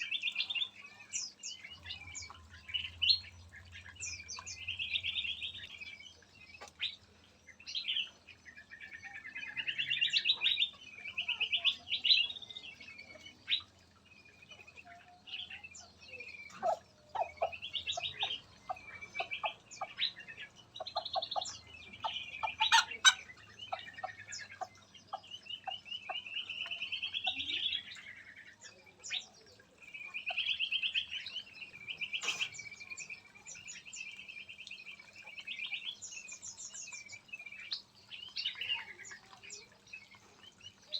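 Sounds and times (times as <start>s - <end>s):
songbirds warbling: 0.0s - 40.9s.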